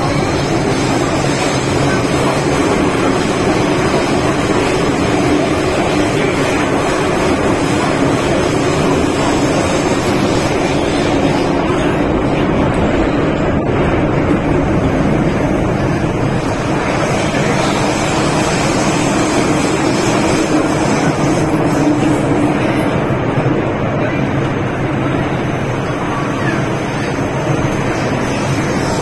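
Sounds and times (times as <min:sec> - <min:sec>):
steady hum: 0:00.0 - 0:29.0
train rumbling on track: 0:00.0 - 0:29.0.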